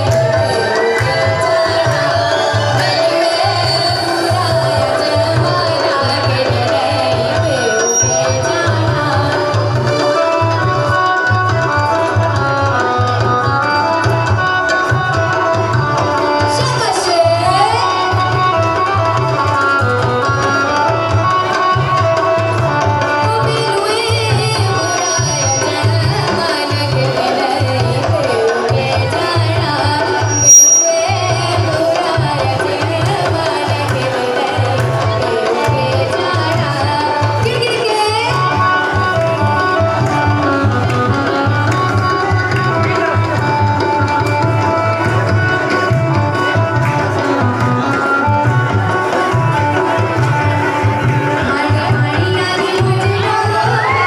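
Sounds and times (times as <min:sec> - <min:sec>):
dance music with tabla and drums: 0:00.0 - 0:54.0.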